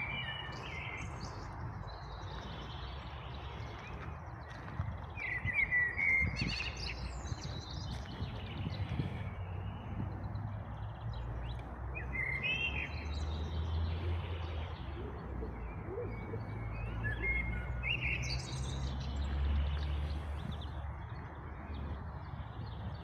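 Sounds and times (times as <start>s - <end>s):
songbirds chirping: 0.0s - 23.0s
steady low rumble: 0.0s - 23.0s.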